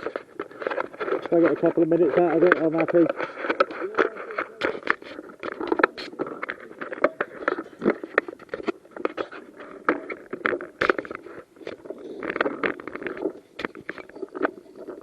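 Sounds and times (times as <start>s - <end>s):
clothing rustling on microphone: 0.0s - 15.0s.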